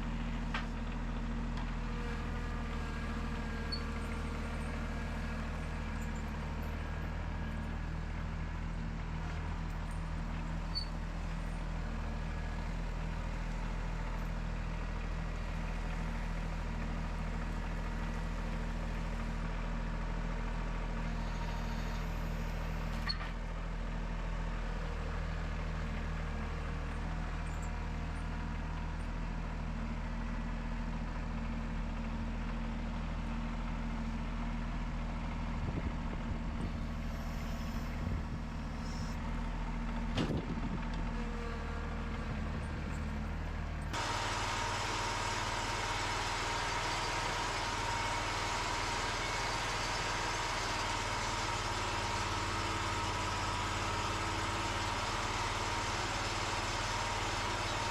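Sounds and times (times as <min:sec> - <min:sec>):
engine idling low hum: 0:00.0 - 0:57.9.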